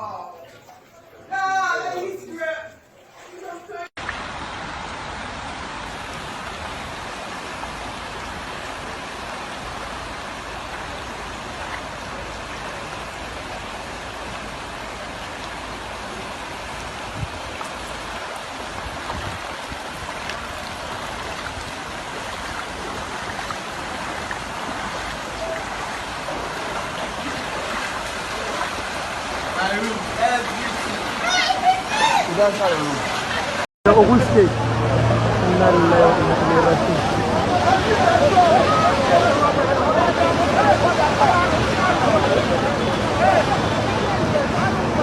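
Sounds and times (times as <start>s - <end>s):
rushing water: 0.0s - 45.0s.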